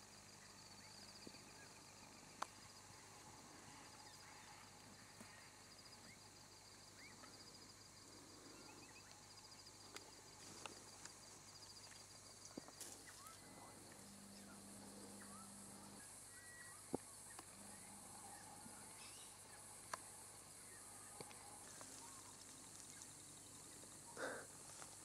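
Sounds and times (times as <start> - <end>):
faint chirps: 0.0 - 25.0.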